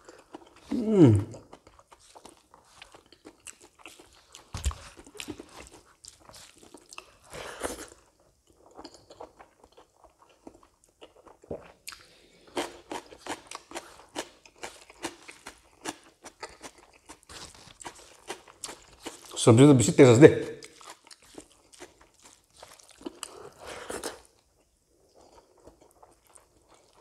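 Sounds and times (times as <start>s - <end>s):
crunchy chewing: 0.0s - 19.4s, 20.5s - 27.0s.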